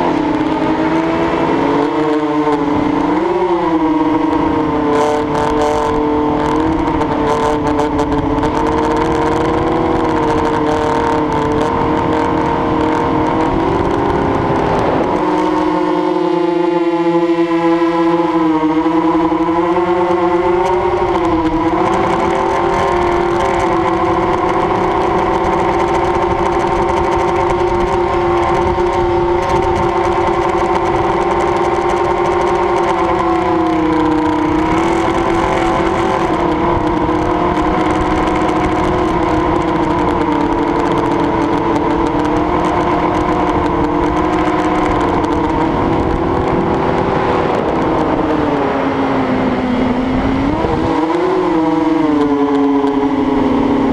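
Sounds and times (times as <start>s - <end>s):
model aircraft motor drone: 0.0s - 53.9s
rushing wind noise: 0.0s - 53.9s.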